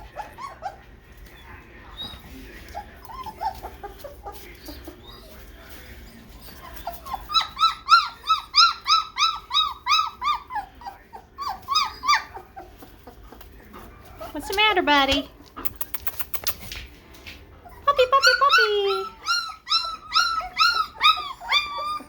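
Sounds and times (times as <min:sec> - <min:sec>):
puppy whining and crying: 0:00.0 - 0:13.7, 0:17.6 - 0:22.0.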